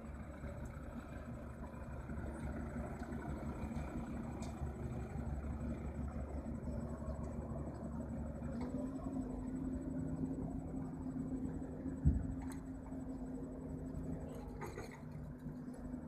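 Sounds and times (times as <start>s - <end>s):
heavy diesel engines rumbling: 0.0s - 16.0s.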